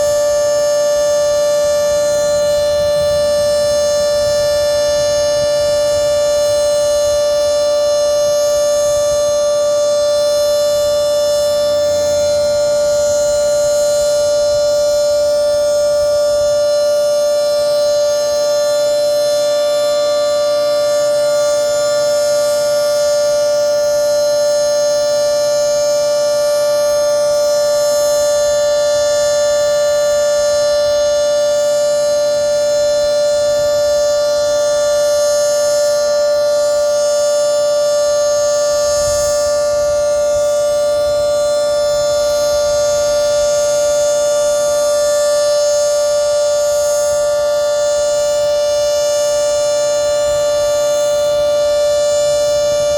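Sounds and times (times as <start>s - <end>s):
two-tone warning siren: 0.0s - 52.9s.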